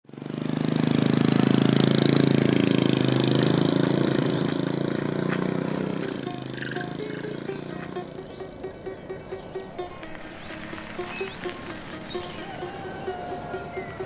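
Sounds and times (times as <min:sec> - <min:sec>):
small motorbike engine running: 0:00.0 - 0:14.0.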